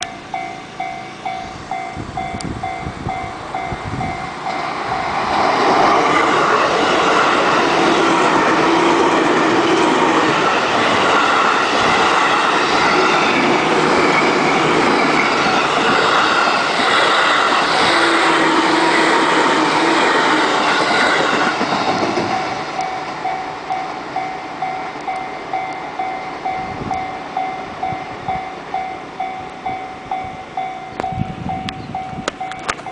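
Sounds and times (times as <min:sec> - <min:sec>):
electric train passing: 0:00.0 - 0:32.9.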